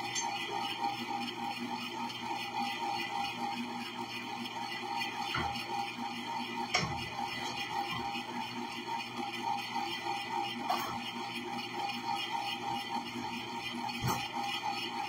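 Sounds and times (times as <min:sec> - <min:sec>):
ice cream maker motor humming: 0:00.0 - 0:15.0.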